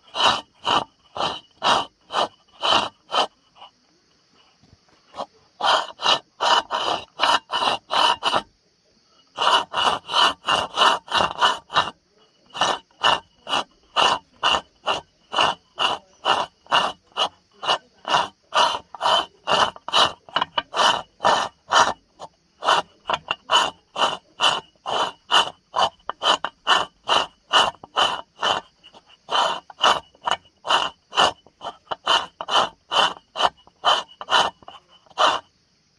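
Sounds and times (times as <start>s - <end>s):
coffee grinder rasping: 0.0s - 35.9s.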